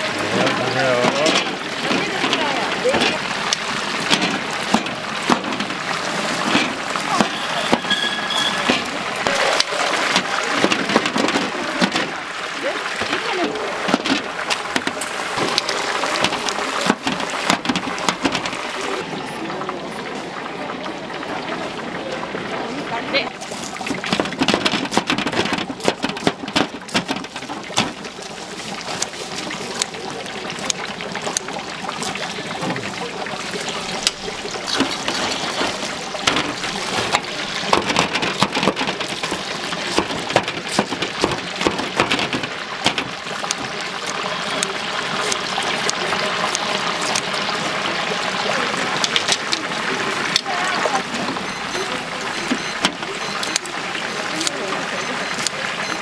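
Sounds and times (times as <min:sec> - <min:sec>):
food deep-frying in oil: 0:00.0 - 0:56.0.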